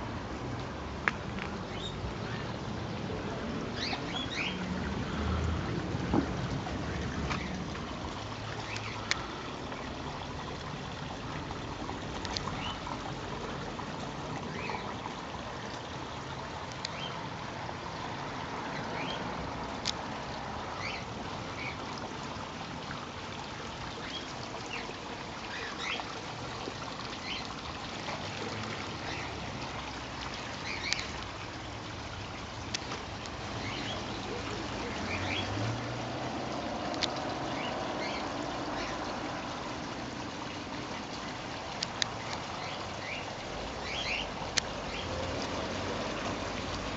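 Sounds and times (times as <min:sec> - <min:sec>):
stream trickling over stones: 0:00.0 - 0:46.9.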